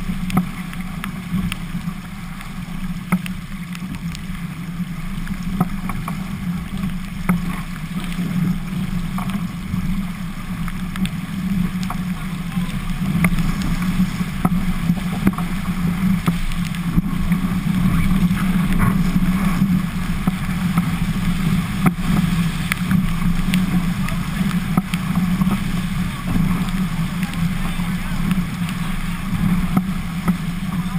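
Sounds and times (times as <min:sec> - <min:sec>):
low drone: 0:00.0 - 0:30.9
rushing water: 0:00.0 - 0:30.9
wind: 0:00.0 - 0:30.9.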